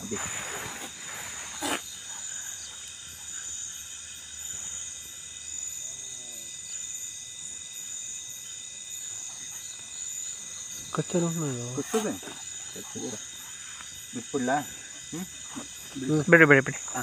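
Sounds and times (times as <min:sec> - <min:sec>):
crickets chirring: 0:00.0 - 0:17.0
faint pulsing insect trill: 0:00.0 - 0:17.0.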